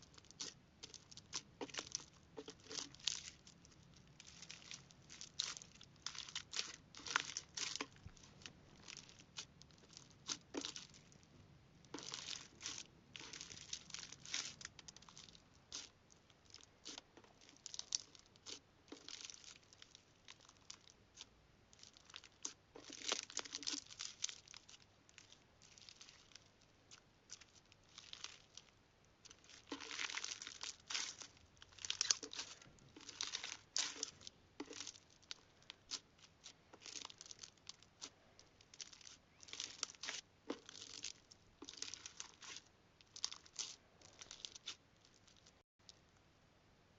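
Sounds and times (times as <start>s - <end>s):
slime crackling and popping: 0.0s - 11.3s, 11.9s - 45.6s.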